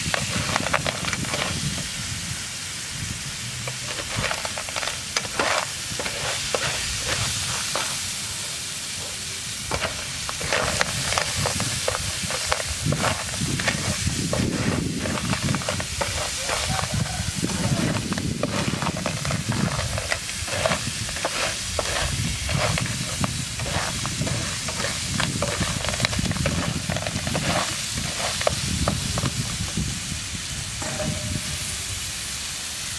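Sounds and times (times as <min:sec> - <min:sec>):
steady sizzle: 0:00.0 - 0:32.9.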